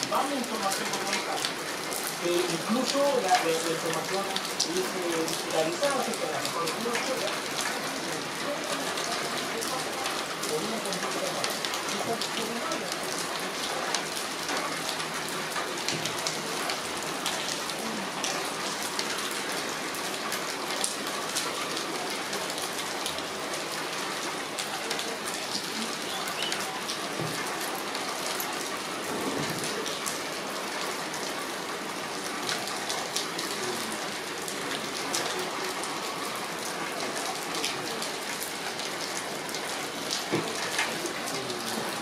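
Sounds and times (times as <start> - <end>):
heavy rain hissing: 0.0 - 42.0
raindrops tapping surfaces: 0.0 - 42.0.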